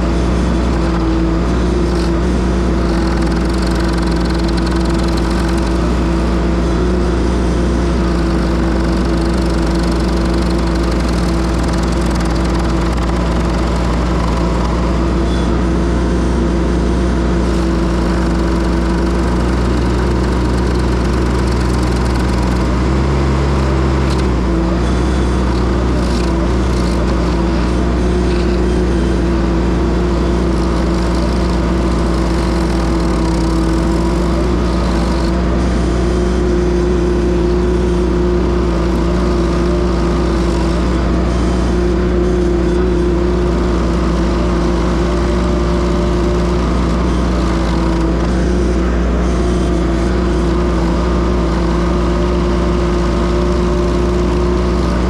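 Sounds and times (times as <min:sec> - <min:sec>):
loader engine at high throttle: 0:00.0 - 0:55.0.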